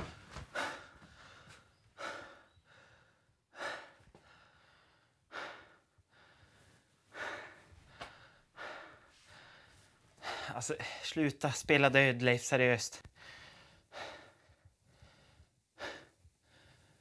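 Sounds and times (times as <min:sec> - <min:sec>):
man breathing heavily: 0:00.0 - 0:11.1, 0:13.1 - 0:17.0.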